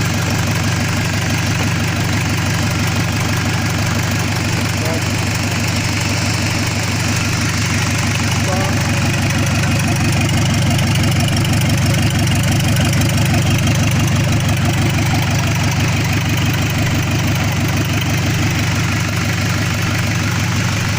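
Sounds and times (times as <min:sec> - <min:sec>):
diesel truck engine idling: 0:00.0 - 0:20.9.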